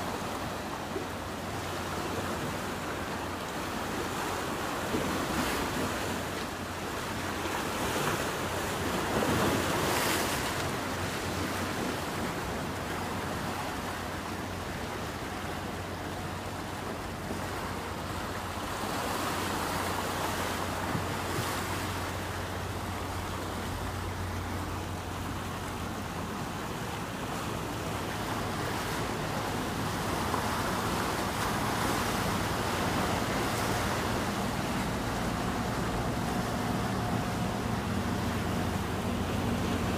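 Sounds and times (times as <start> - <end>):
low engine hum: 0.0 - 39.9
water rushing past ship hull: 0.0 - 39.9.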